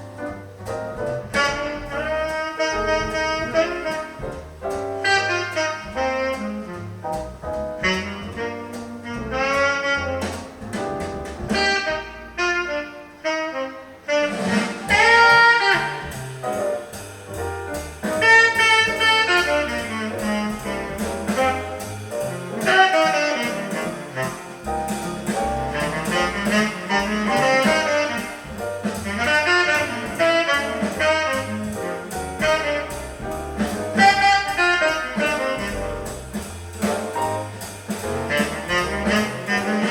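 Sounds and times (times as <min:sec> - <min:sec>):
jazz with saxophone lead: 0:00.0 - 0:39.9.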